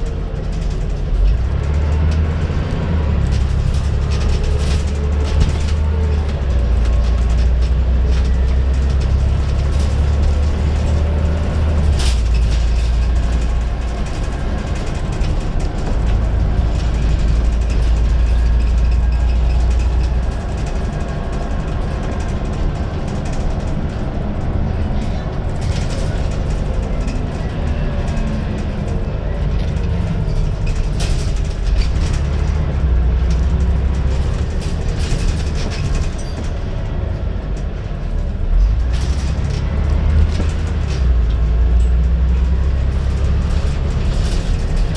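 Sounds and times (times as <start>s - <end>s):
bus engine drone: 0.0s - 44.9s.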